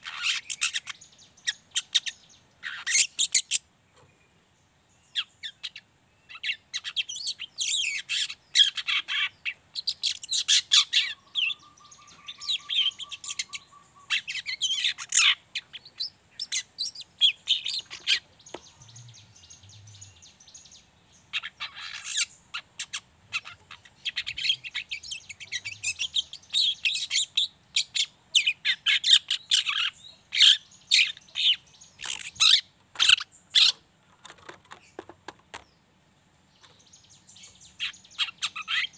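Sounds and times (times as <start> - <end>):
bird chattering twitters: 0.0 - 3.6, 5.1 - 35.7, 36.6 - 38.9.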